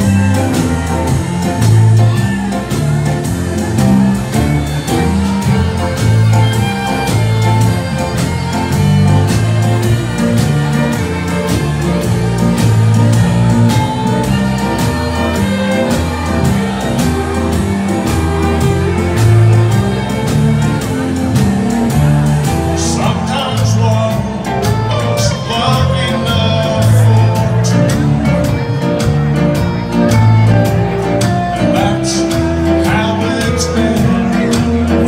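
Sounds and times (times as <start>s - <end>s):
bass line: 0.0s - 35.0s
drums with steady beat: 0.0s - 35.0s
fiddles playing: 0.0s - 35.0s.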